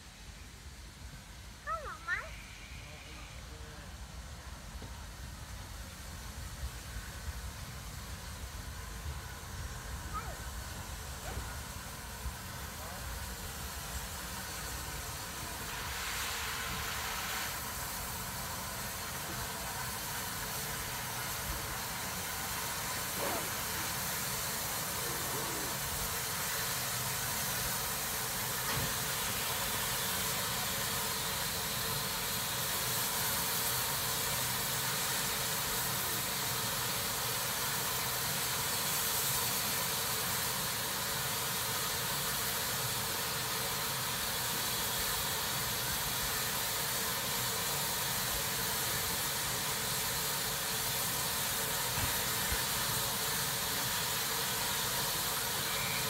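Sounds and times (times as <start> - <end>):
locomotive steam hiss: 0.0 - 56.0.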